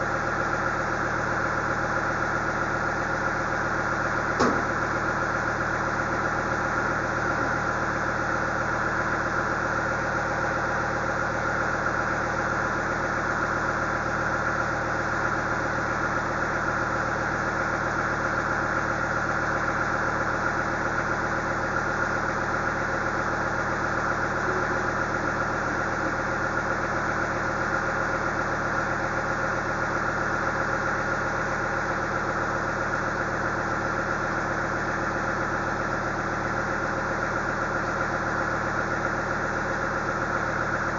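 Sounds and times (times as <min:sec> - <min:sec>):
loader engine idling: 0:00.0 - 0:40.9.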